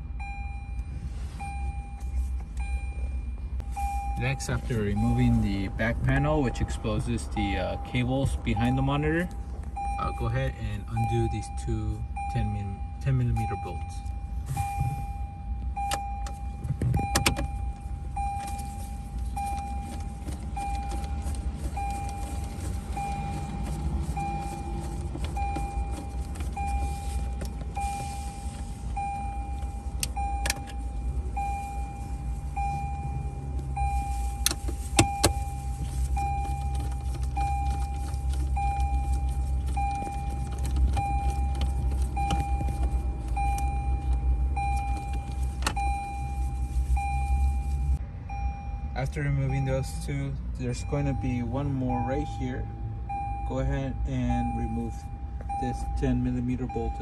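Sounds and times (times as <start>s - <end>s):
car warning chime beeping: 0.0s - 57.0s
low steady rumble: 0.0s - 57.0s.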